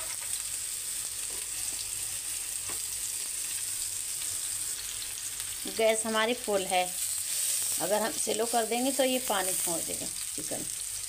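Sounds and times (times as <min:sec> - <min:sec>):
kebabs sizzling in oil: 0:00.0 - 0:11.0.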